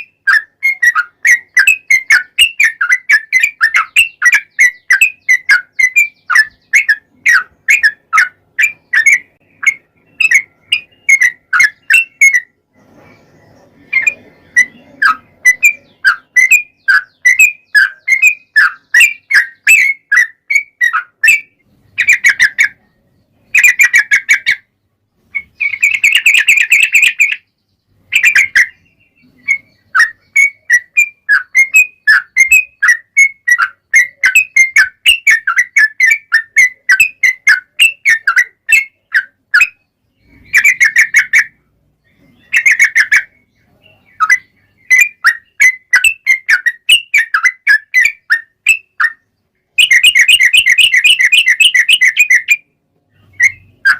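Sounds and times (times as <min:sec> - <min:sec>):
bird song of bubbly whistled notes: 0:00.0 - 0:53.9.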